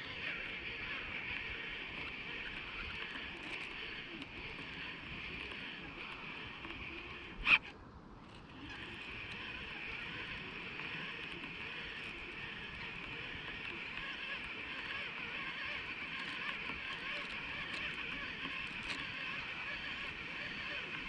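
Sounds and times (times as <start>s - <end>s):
fishing reel whirring: 0.0s - 21.0s.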